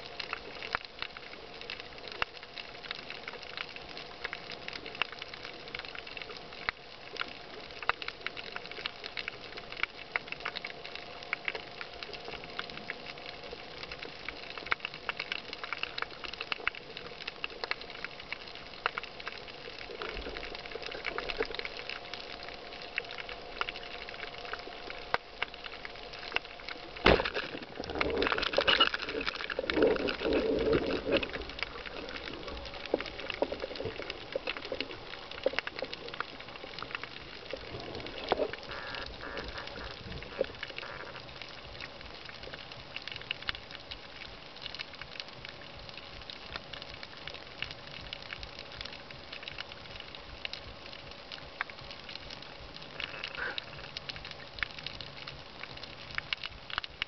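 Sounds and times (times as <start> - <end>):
underwater crackling and ticking: 0.0 - 57.0
underwater rushing noise: 0.0 - 57.0.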